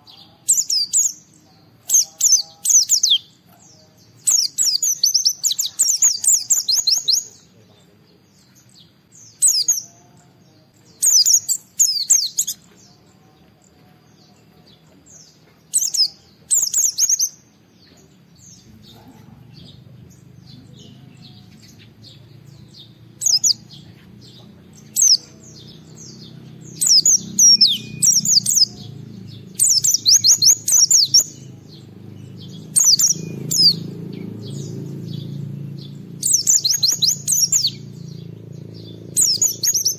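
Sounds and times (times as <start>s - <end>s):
bird twittering: 0.0s - 7.7s, 8.4s - 13.1s, 13.7s - 39.9s.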